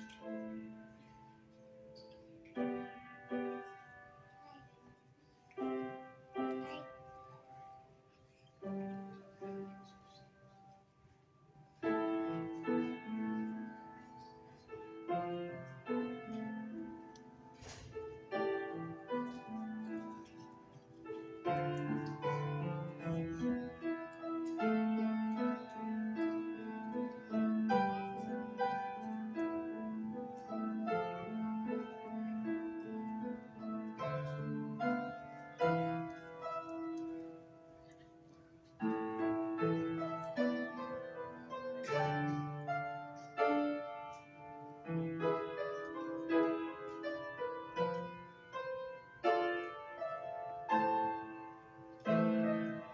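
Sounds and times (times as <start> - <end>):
grand piano piece: 0.0 - 52.9.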